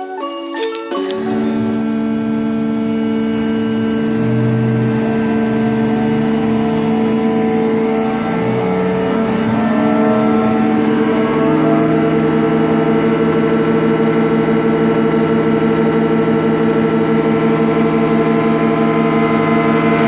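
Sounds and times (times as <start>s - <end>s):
hydraulic pump whining: 0.7s - 20.0s.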